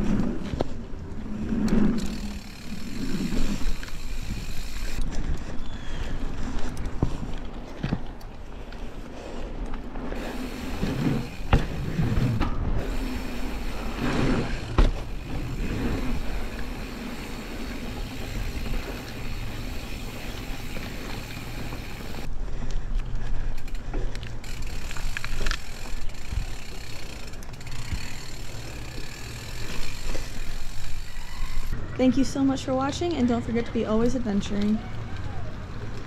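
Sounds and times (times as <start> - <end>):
bike tyre and drivetrain rattle: 0.0 - 31.8.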